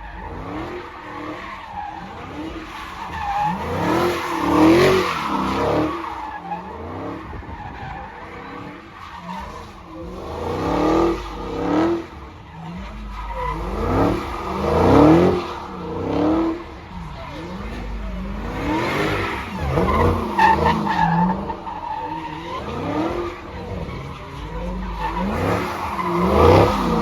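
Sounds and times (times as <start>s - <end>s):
car engine revving hard: 0.0s - 27.0s
tires skidding and squealing: 0.0s - 27.0s.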